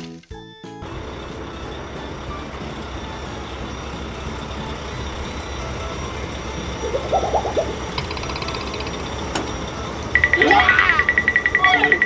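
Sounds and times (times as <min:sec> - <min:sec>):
heavy truck engine rumbling: 0:00.8 - 0:12.0.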